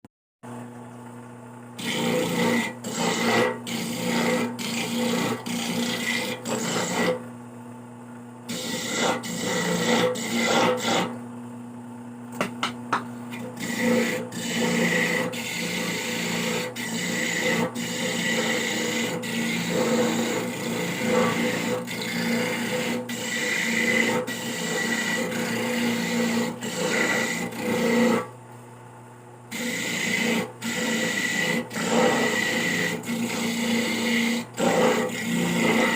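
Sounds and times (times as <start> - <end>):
coconut grating rasps: 1.8 - 7.2, 8.5 - 11.2, 12.4 - 28.3, 29.5 - 35.9.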